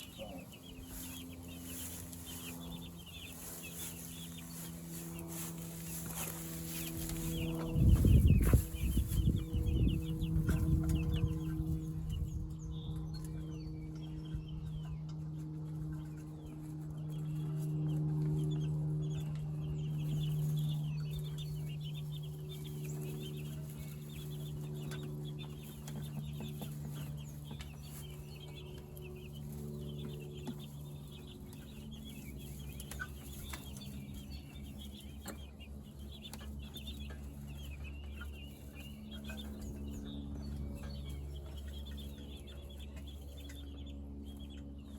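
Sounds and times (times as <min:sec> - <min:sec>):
chickens peeping and clucking: 0:00.0 - 0:44.9
steady low hum: 0:00.0 - 0:44.9.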